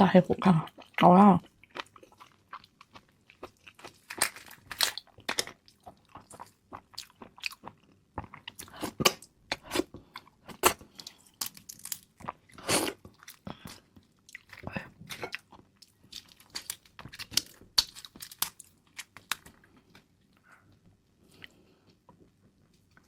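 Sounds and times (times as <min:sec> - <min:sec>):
crunching and chewing: 0:00.8 - 0:23.0.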